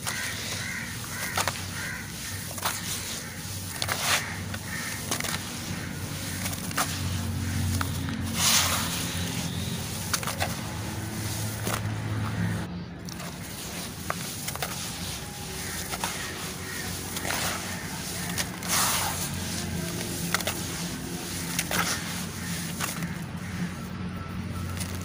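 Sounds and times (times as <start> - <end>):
hands squelching wet gritty mix: 0.0 - 25.0.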